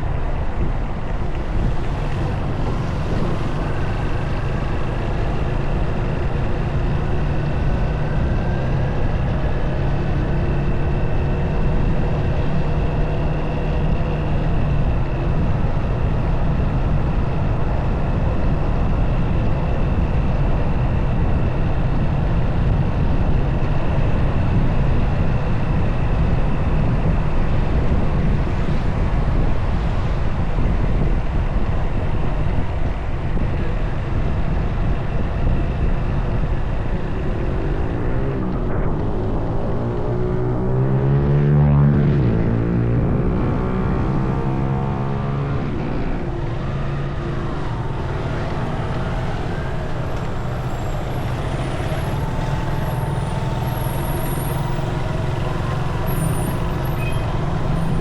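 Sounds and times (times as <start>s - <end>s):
road noise: 0.0s - 58.0s
wind noise on microphone: 0.0s - 58.0s.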